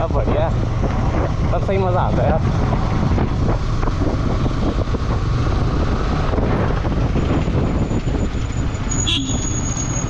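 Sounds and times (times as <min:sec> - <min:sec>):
motorcycle engine and tyres drone: 0:00.0 - 0:10.0
wind buffeting microphone: 0:00.0 - 0:10.0.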